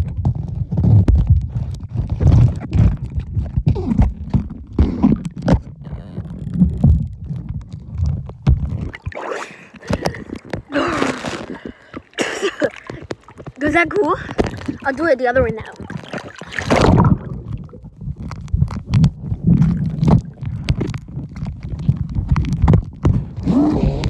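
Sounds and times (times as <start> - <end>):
water knocking against camera: 0.0 - 23.5
muffled underwater rumbling: 0.0 - 24.0
water splashing: 2.0 - 23.5.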